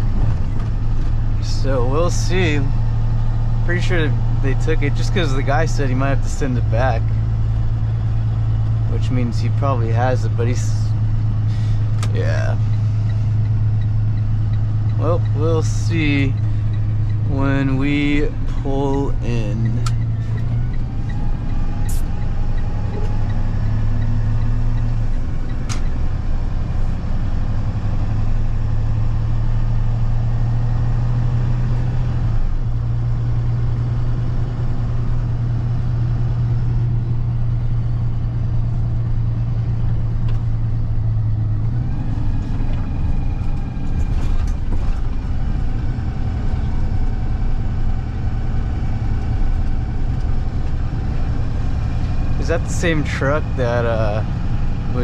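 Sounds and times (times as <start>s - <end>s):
diesel truck engine drone: 0.0s - 55.0s
road noise inside cab: 0.0s - 55.0s.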